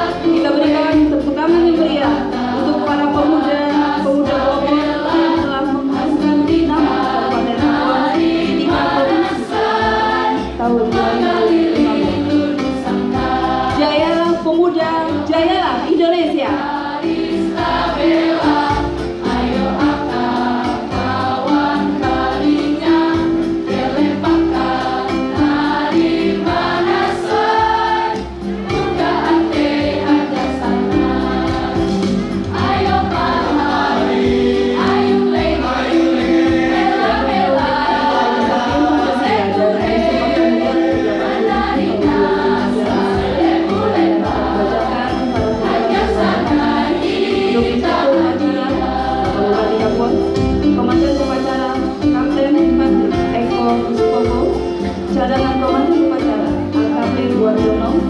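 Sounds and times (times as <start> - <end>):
choir singing: 0.0 - 0.9, 1.8 - 14.4, 16.5 - 50.3.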